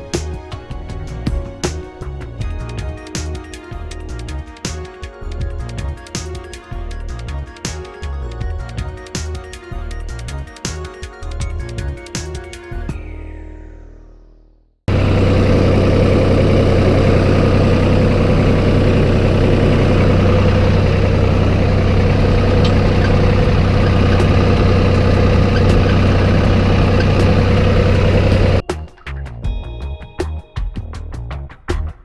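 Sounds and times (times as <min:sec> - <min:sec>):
vehicle engine running: 0:00.0 - 0:12.8, 0:14.9 - 0:30.3
music: 0:00.0 - 0:17.9, 0:22.1 - 0:32.0.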